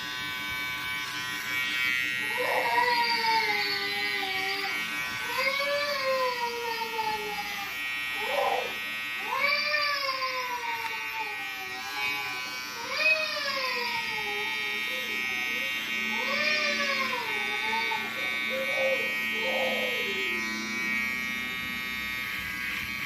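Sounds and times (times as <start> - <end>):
hair trimmer buzzing: 0.0 - 23.0.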